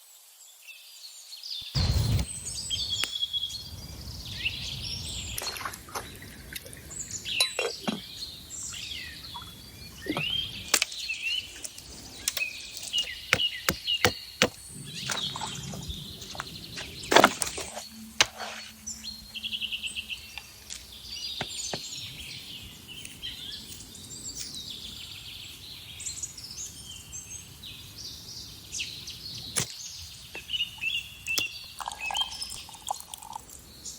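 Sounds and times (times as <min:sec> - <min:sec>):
birds chirping and singing: 0:01.8 - 0:29.3.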